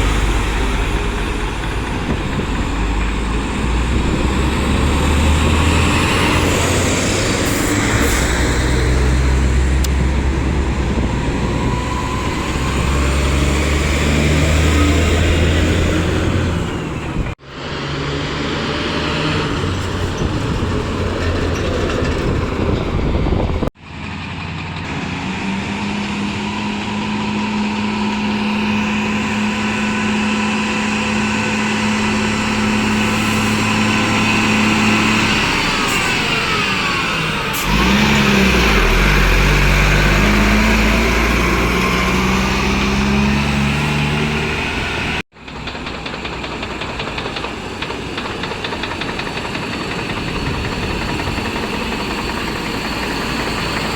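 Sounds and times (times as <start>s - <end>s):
heavy truck engines revving: 0.0s - 53.9s.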